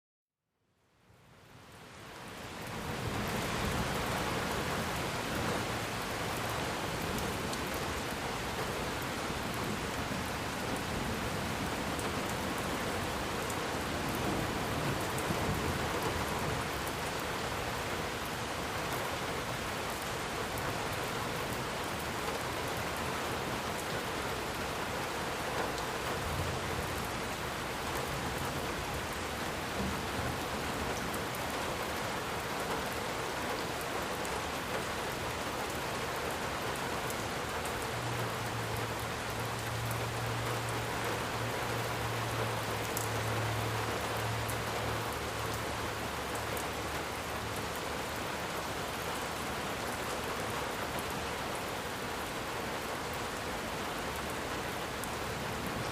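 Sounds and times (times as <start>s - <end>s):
steady rain: 0.6s - 55.9s.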